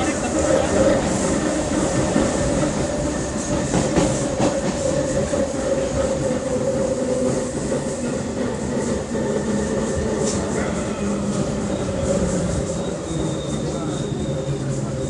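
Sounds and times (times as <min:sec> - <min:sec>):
electric train roaring hum: 0:00.0 - 0:15.0.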